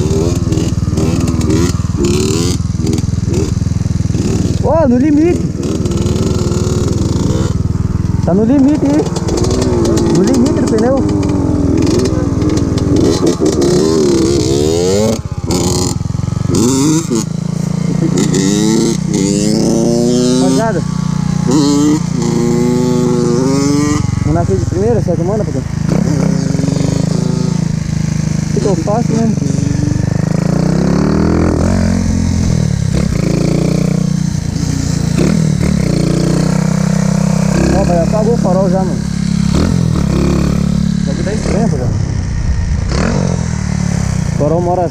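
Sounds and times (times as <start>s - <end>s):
small motorcycle engine revving: 0.0s - 44.9s.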